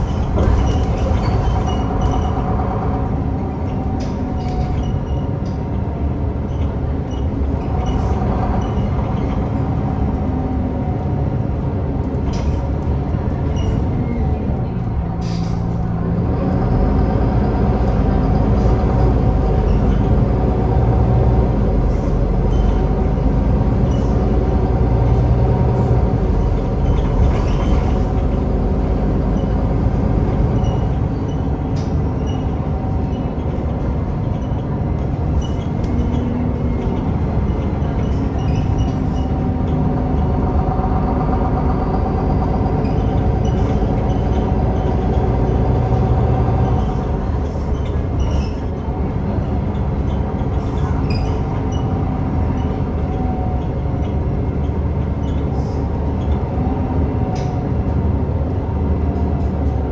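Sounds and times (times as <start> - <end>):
diesel bus engine running: 0.0 - 59.9.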